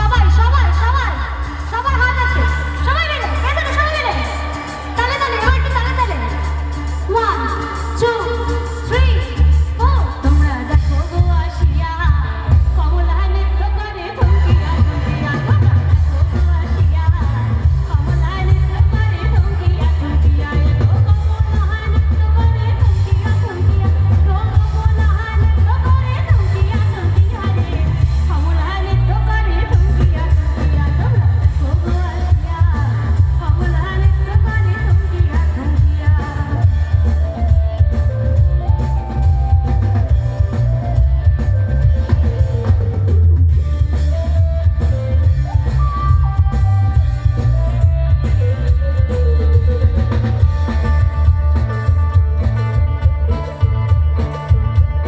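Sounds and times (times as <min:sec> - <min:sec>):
loud music with heavy bass: 0:00.0 - 0:55.0.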